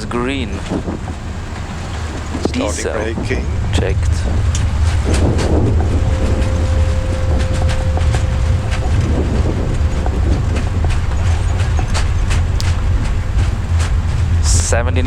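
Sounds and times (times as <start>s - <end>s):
deep engine rumble in reverse thrust: 0.4s - 15.0s
faint steady tone: 1.0s - 14.8s.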